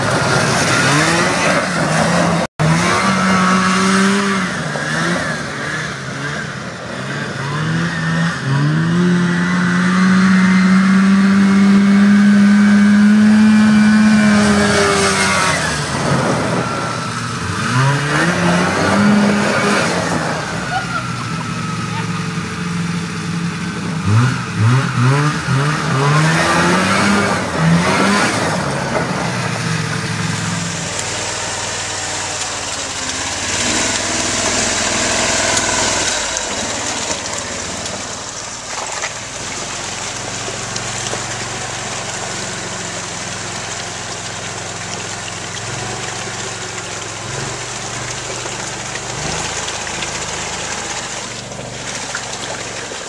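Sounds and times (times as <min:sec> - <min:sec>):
small engines revving: 0:00.0 - 0:53.0
vehicles churning through mud: 0:00.0 - 0:53.0.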